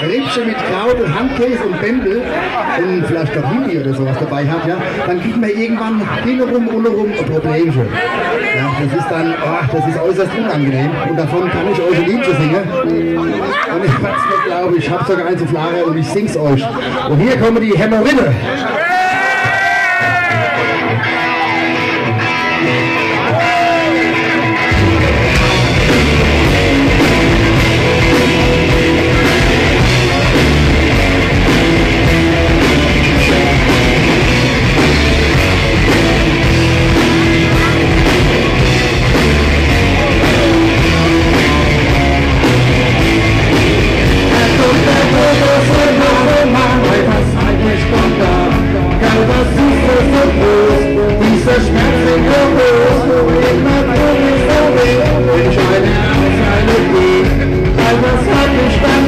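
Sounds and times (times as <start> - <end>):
live rock band playing: 0.0 - 16.1, 16.9 - 59.0.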